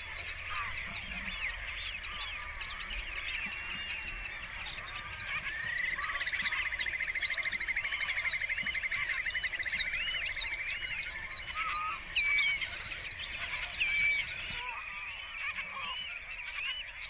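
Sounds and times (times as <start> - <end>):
bird chorus chirps and whistles: 0.0 - 17.0.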